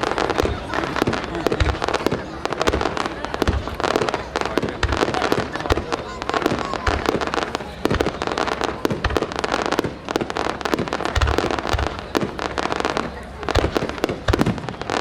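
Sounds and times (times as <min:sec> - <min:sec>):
fireworks crackling and popping: 0:00.0 - 0:15.0.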